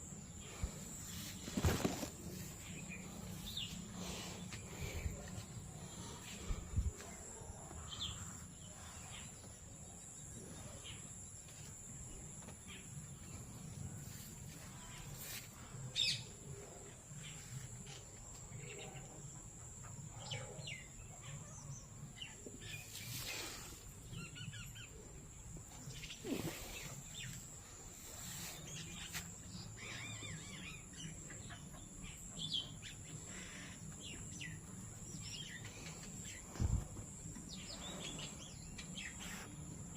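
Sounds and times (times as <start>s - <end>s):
birds calling and chirping: 0.0s - 39.9s
low outdoor background noise: 0.0s - 39.9s.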